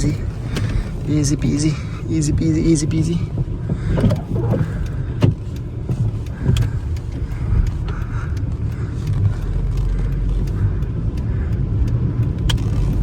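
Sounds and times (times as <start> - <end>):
car rumble from inside cabin: 0.0 - 13.0
light clicks: 0.1 - 13.0.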